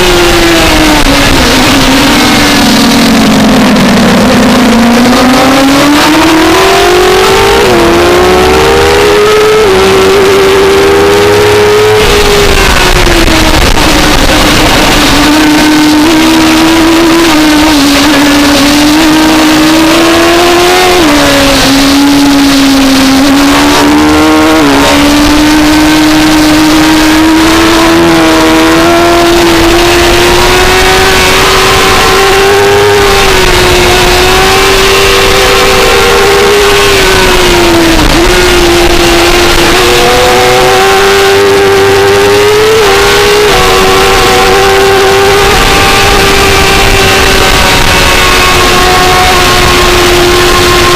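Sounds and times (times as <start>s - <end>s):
motorcycle engine high-revving: 0.0s - 50.9s
steady rush of noise: 0.0s - 50.9s.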